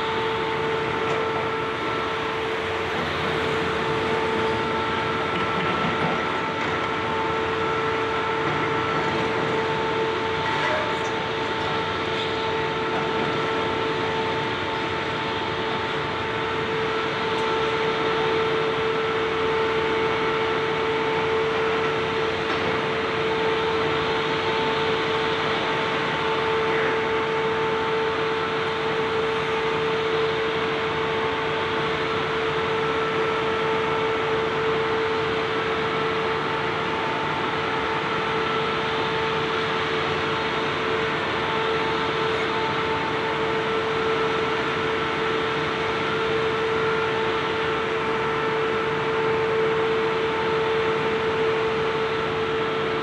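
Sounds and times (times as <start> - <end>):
heavy machinery droning: 0.0 - 53.0.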